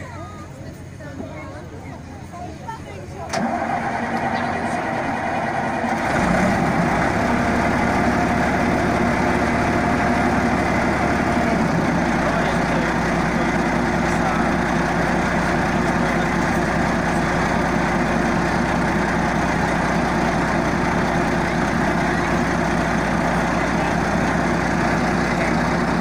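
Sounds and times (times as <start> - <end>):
tracked vehicle engine idling: 0.0 - 26.0.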